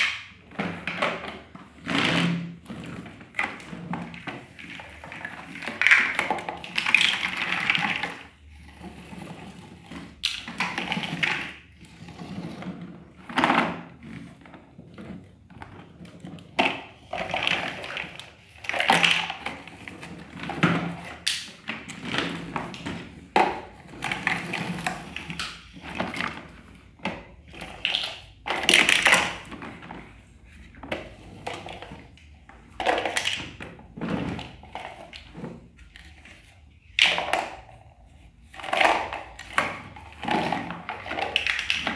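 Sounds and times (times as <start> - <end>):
plastic bucket scraping tiled floor: 0.0 - 41.9.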